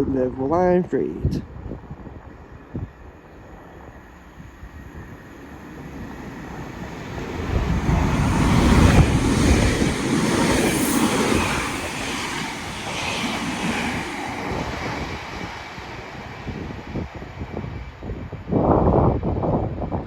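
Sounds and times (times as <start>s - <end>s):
train wheels rumbling on rails: 1.4s - 20.0s.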